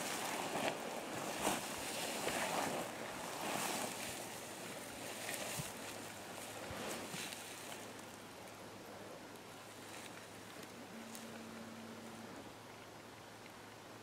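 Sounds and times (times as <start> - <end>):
wind hiss on microphone: 0.0 - 12.6.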